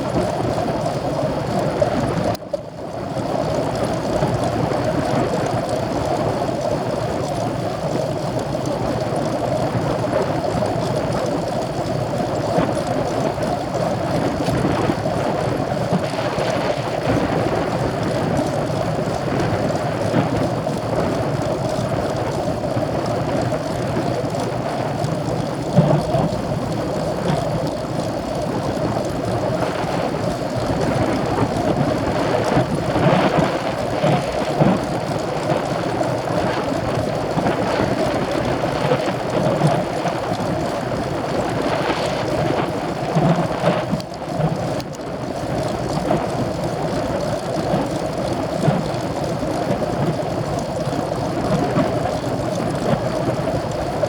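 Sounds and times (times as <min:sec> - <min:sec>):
bicycle rolling noise: 0:00.0 - 0:54.0
wind noise: 0:00.0 - 0:54.0.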